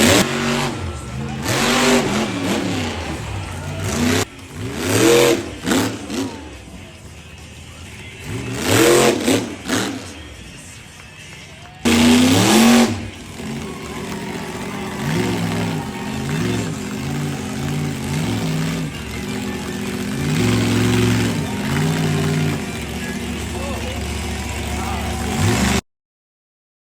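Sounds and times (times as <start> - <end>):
monster truck engine revving: 0.0 - 25.8.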